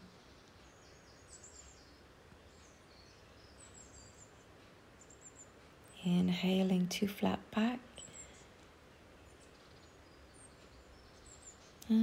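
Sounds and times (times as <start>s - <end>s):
faint birdsong: 0.0s - 12.0s
outdoor background hiss: 0.0s - 12.0s.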